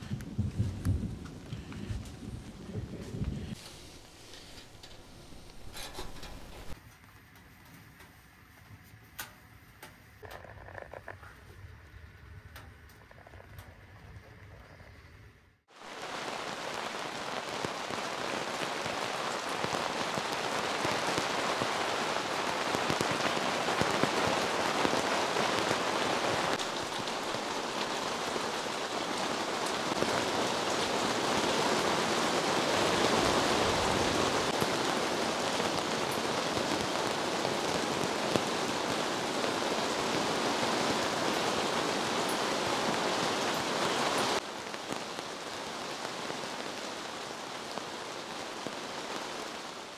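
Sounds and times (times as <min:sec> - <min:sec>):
heavy rain falling: 0:00.0 - 0:06.8, 0:15.7 - 0:49.9.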